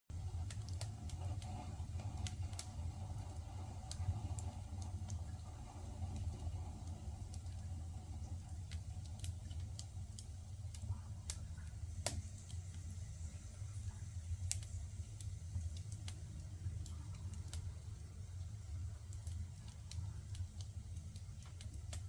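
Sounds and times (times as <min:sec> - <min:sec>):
firewood crackling in stove: 0:00.1 - 0:22.0
steady low hum: 0:00.1 - 0:22.0.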